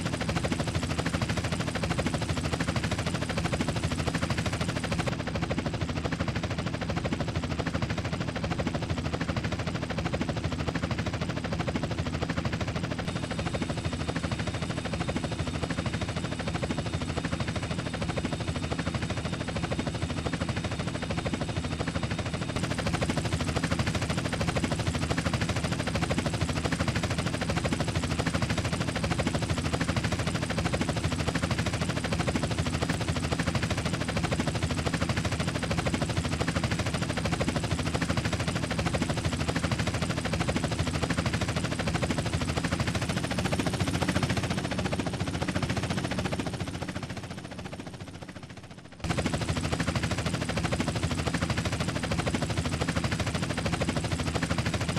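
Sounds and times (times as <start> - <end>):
helicopter rotor chopping: 0.0 - 54.9.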